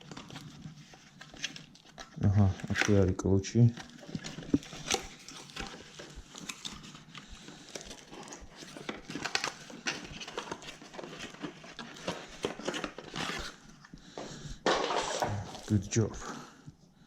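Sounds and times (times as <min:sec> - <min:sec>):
packaging rustling: 0:00.0 - 0:16.1.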